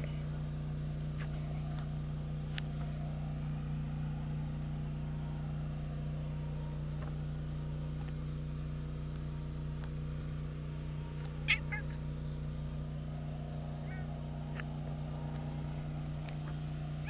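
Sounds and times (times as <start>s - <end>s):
steady low engine hum: 0.0s - 17.0s.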